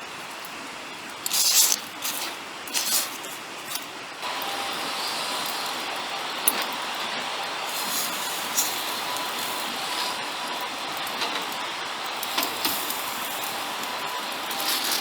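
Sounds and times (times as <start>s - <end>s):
campfire crackling and popping: 0.2s - 15.0s.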